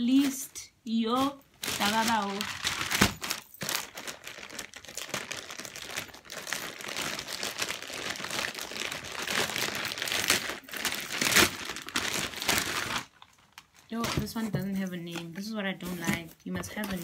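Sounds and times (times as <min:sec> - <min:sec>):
packaging crinkling and rustling: 0:01.2 - 0:17.0.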